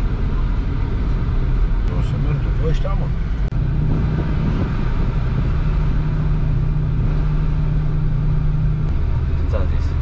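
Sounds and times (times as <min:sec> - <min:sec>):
car engine drone: 0:00.0 - 0:10.0
road rumble: 0:00.0 - 0:10.0.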